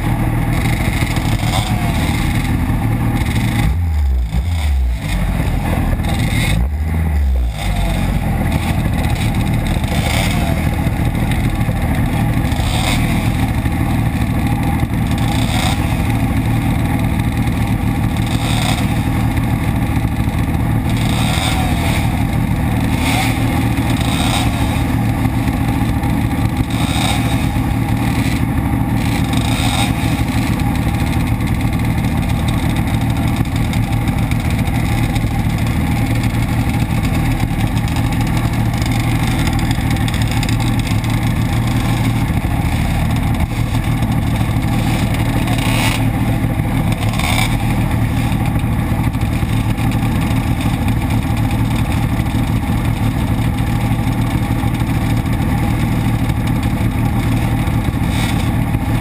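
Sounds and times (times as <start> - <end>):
race bikes running: 0.0 - 59.0
two-stroke engine idling: 0.0 - 59.0.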